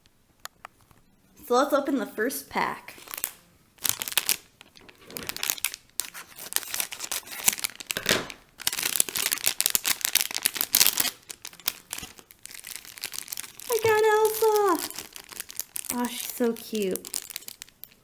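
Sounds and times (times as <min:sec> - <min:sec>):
foil packet torn and crinkled: 0:02.9 - 0:18.0.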